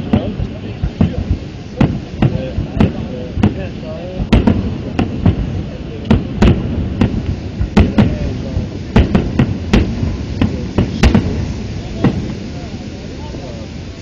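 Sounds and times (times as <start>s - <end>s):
fireworks bangs: 0.0s - 14.0s
low rumble: 0.0s - 14.0s.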